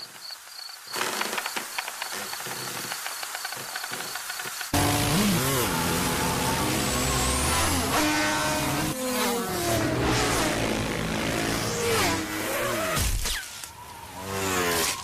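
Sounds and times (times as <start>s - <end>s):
buzzing insect wings like engines: 0.6s - 15.0s.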